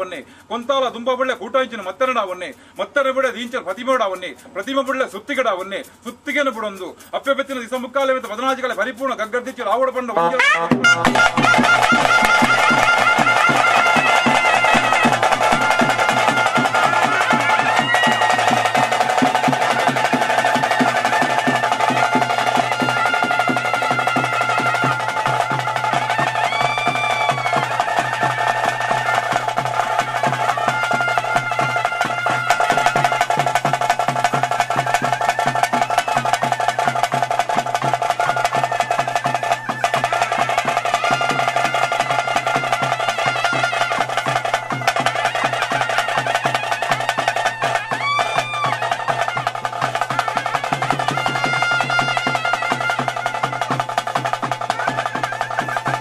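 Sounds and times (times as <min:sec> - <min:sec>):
drums beating fast rhythm: 0:00.0 - 0:56.0
wind instrument melody: 0:09.9 - 0:56.0.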